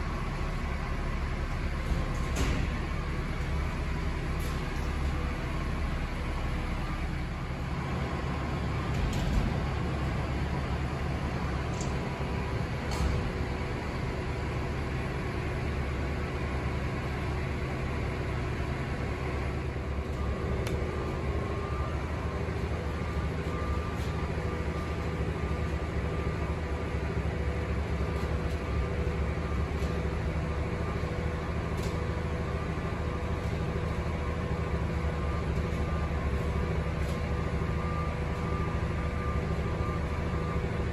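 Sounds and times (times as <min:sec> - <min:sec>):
machinery hum: 0:00.0 - 0:40.9.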